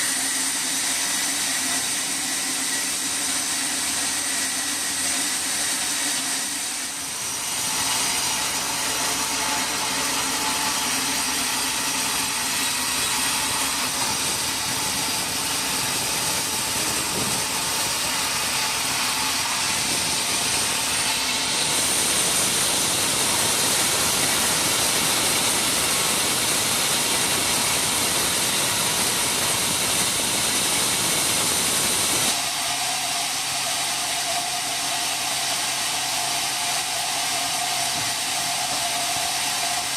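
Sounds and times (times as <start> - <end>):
saw whining as it cuts wood: 0.0 - 39.9.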